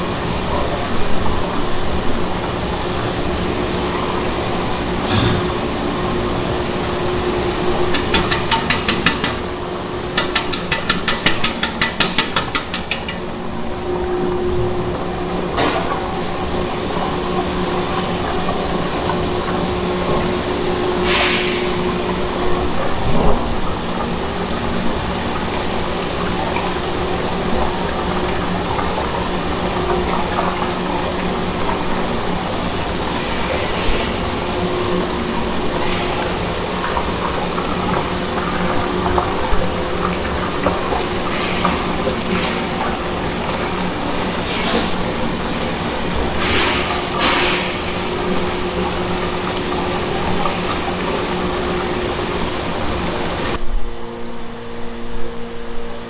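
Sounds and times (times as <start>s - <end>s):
industrial mixer humming: 0.0s - 56.0s.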